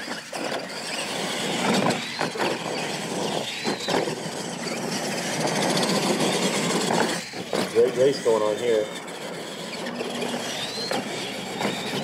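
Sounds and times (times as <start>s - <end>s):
rc trucks motors whining: 0.0s - 12.0s.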